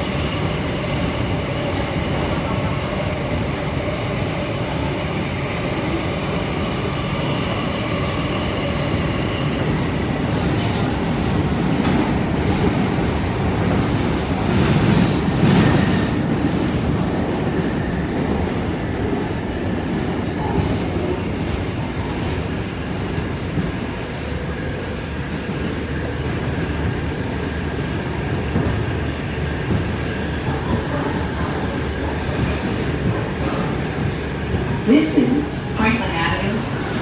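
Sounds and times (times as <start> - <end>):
subway wheels rumbling on rails: 0.0 - 37.0.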